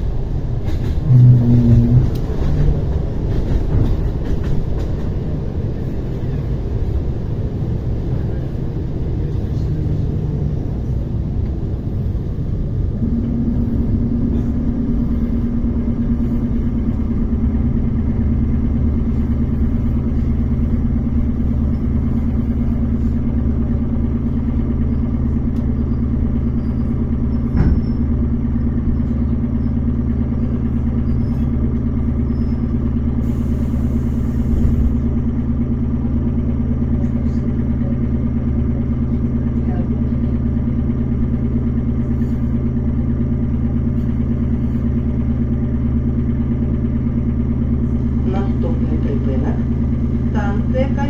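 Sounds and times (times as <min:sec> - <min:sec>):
train wheels rumbling: 0:00.0 - 0:51.0.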